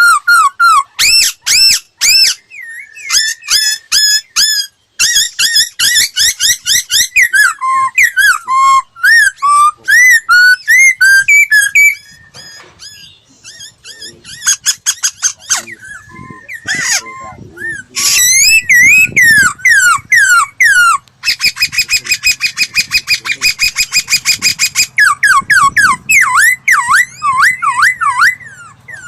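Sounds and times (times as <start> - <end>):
bird singing whistled notes: 0.0 - 29.0.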